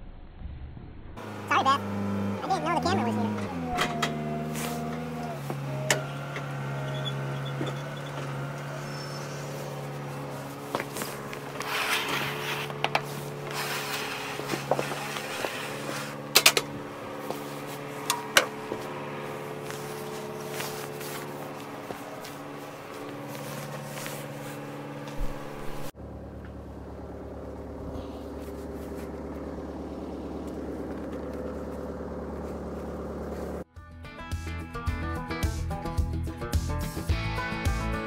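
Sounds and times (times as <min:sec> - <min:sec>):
sawmill engine running: 0:01.2 - 0:33.7.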